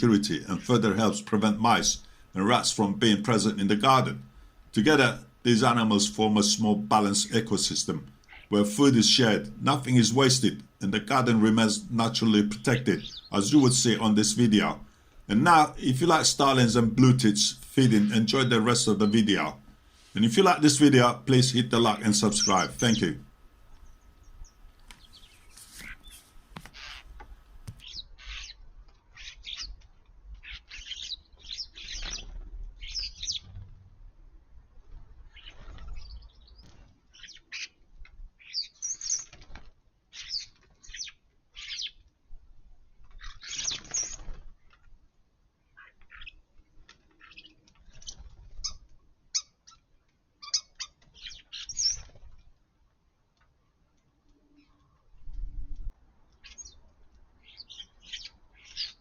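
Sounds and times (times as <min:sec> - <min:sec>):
small birds chirping: 0:00.0 - 0:33.6, 0:35.3 - 0:37.8, 0:38.4 - 0:39.5, 0:40.1 - 0:42.1, 0:43.1 - 0:44.4, 0:45.6 - 0:52.3, 0:56.3 - 0:59.0.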